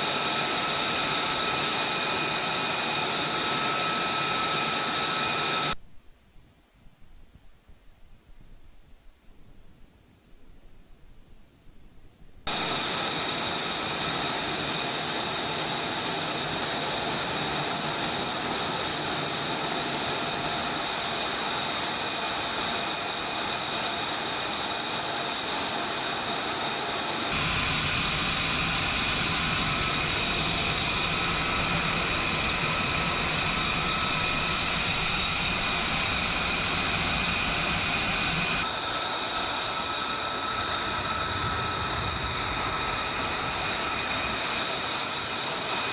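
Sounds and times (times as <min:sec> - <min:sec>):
jet engine running: 0:00.0 - 0:05.8, 0:12.4 - 0:45.9.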